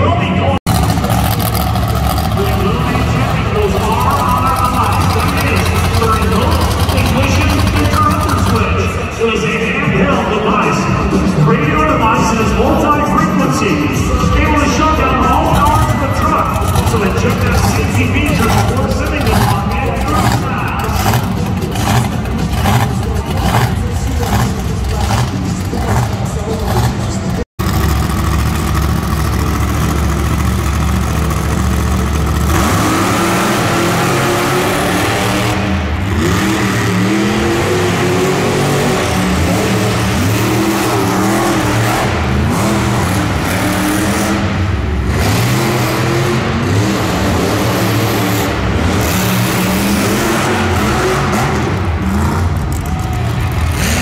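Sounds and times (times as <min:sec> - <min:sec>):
deep engine rumble: 0:00.0 - 0:54.0
monster truck engines revving: 0:00.0 - 0:54.0.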